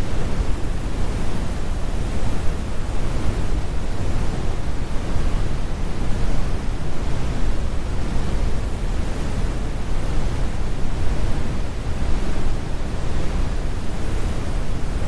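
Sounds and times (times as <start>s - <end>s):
brown noise: 0.0s - 15.0s.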